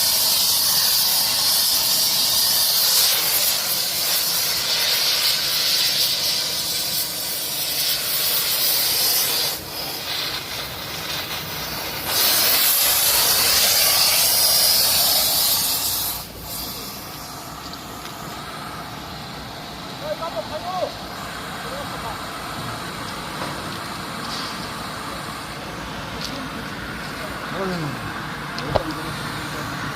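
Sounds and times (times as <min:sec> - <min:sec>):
loud steady hissing: 0:00.0 - 0:29.9.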